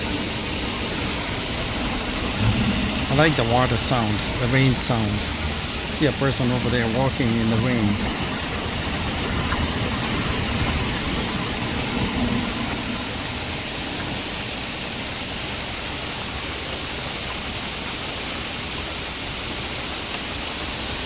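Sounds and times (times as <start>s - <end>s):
heavy rain pouring: 0.0s - 21.0s
rain drops ticking: 0.0s - 21.0s.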